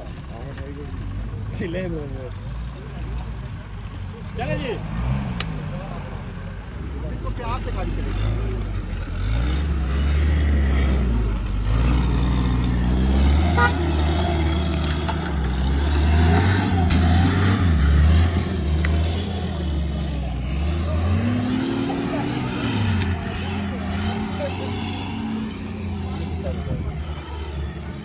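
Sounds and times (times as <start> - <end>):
jeep engine under load: 0.0 - 28.0.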